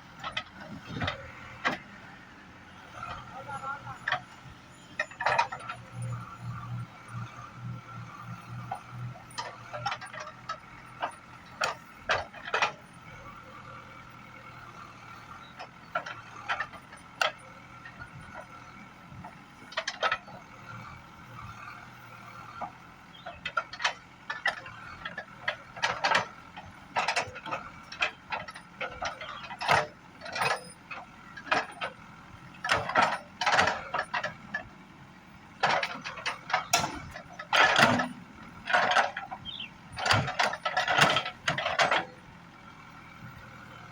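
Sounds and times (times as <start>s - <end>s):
backhoe engine whine: 0.0s - 43.9s
clanks and rattles: 0.2s - 1.8s, 3.0s - 13.0s, 15.1s - 42.7s.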